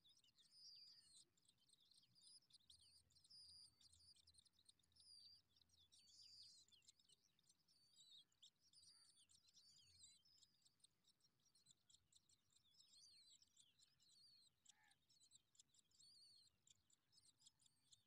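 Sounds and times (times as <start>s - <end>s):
faint skylark chirping: 0.0s - 18.0s.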